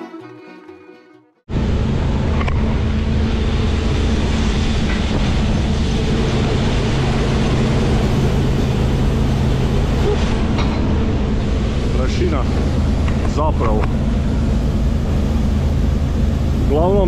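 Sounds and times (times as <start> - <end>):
combine harvester engine hum: 1.5 - 17.0
threshing machinery clatter: 1.6 - 17.0.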